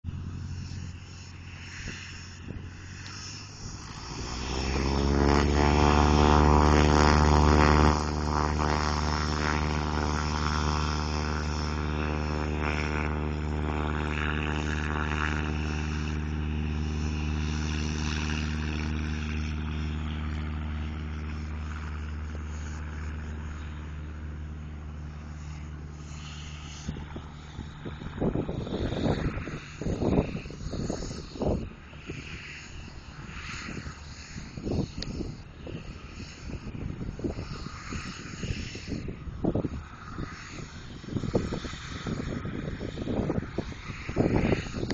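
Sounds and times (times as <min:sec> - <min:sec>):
propeller plane engine drone: 0:00.0 - 0:44.9.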